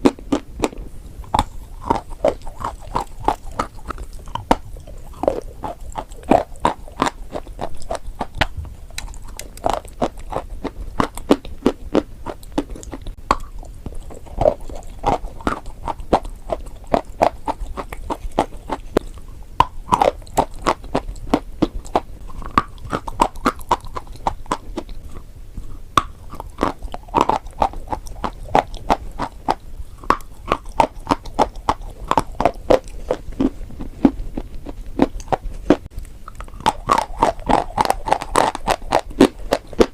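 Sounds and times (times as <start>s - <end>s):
crunching and chewing chalk: 0.0s - 39.9s.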